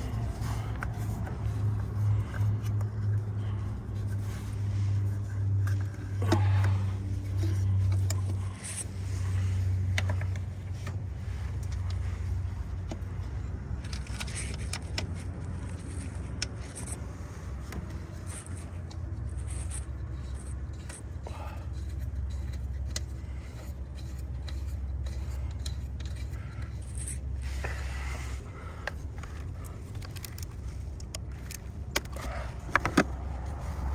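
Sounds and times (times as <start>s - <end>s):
socket wrench clicking and scraping: 0.0s - 33.9s
steady low hum: 0.0s - 33.9s.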